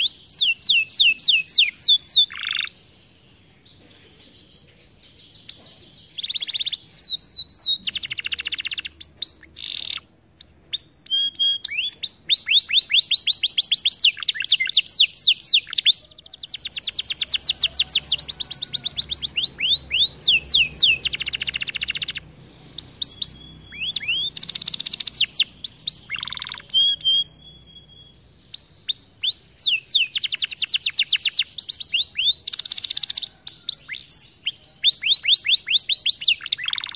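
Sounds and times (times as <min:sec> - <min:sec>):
canary singing trills: 0:00.0 - 0:36.9.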